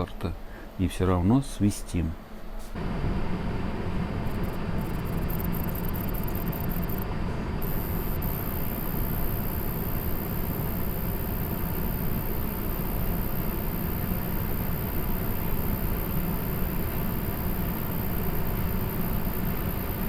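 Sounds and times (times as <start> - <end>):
cooling fan rushing: 0.0 - 20.0
high-pitched coil whine: 2.8 - 20.0.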